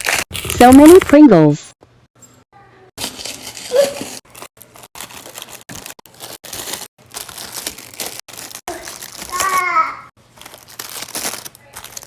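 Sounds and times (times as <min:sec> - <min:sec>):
snack packaging crinkling: 0:00.0 - 0:01.3, 0:03.0 - 0:12.0.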